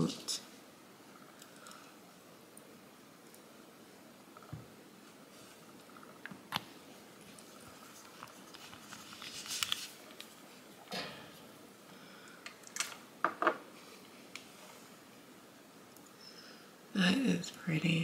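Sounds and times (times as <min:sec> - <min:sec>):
faint room hiss: 0:00.0 - 0:18.0.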